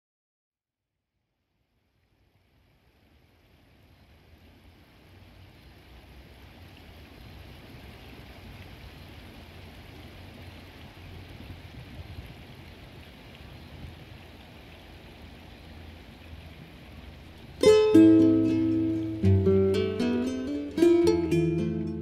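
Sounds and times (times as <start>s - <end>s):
river water rushing: 2.6s - 22.0s.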